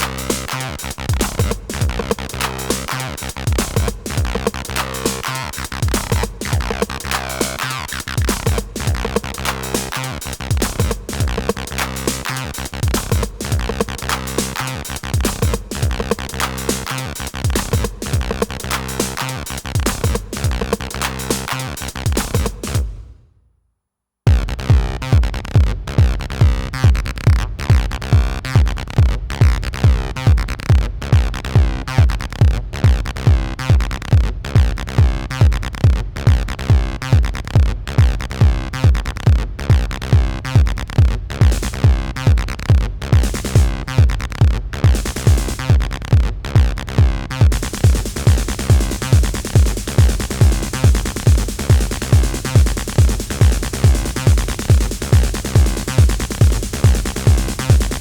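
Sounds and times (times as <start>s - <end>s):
synth bass line: 0.0s - 22.9s, 24.3s - 58.0s
kick drum beat: 1.0s - 2.4s, 3.4s - 4.7s, 5.8s - 7.1s, 8.2s - 9.4s, 10.4s - 11.7s, 12.7s - 14.1s, 15.0s - 16.4s, 17.3s - 18.7s, 19.6s - 21.0s, 21.9s - 23.2s, 24.3s - 58.0s.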